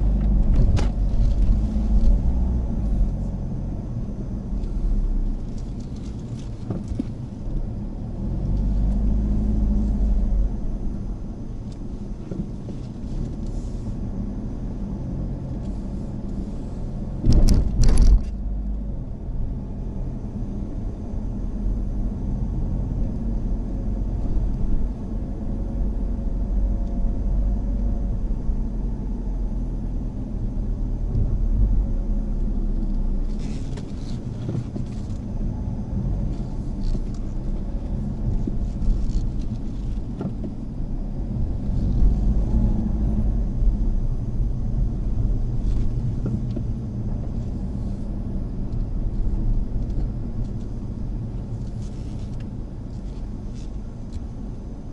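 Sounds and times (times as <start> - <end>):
car engine and road rumble: 0.0 - 54.9.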